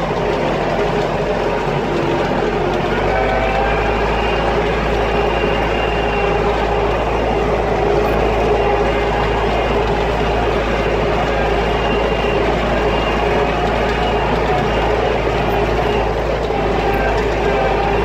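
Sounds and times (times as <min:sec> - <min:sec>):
tractor diesel engine droning: 0:00.0 - 0:18.0.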